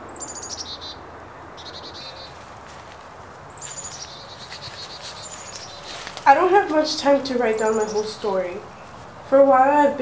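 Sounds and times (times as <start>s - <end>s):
outdoor hiss: 0.0s - 10.0s
songbird singing: 0.0s - 10.0s.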